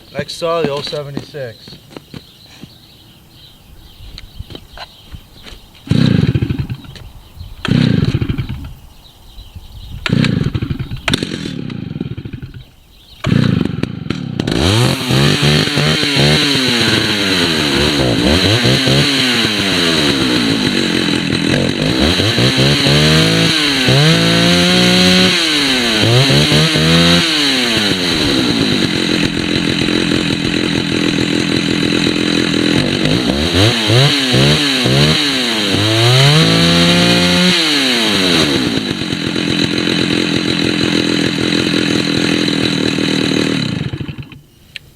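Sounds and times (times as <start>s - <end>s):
chainsaw starting and revving: 5.4s - 8.7s, 10.0s - 44.5s.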